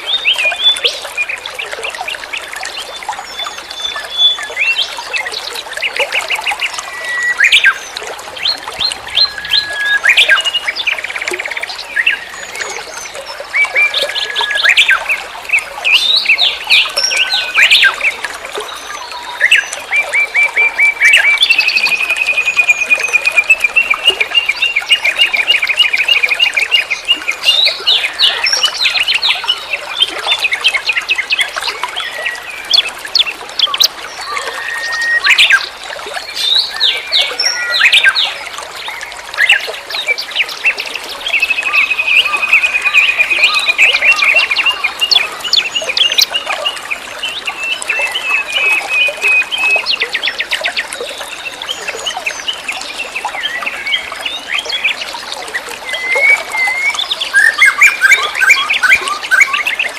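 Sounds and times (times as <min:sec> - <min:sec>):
birds chirping and calling: 0:03.2 - 0:38.4, 0:39.0 - 0:52.6, 0:53.4 - 0:59.9.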